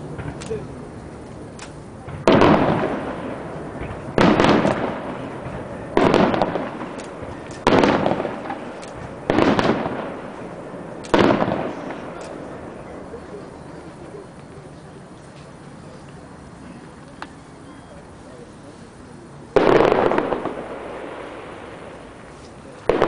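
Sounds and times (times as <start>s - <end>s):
fireworks bursting with echo: 0.0s - 18.2s, 19.1s - 23.0s.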